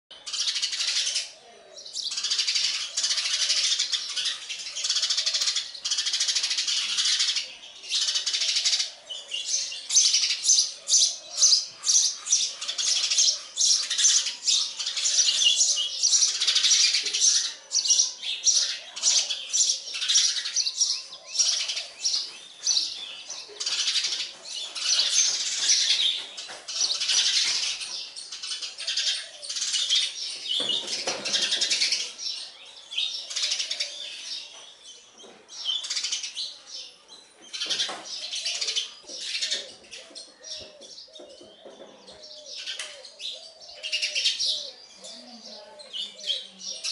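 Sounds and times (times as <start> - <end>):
sparrows chirping: 0.1 - 46.9.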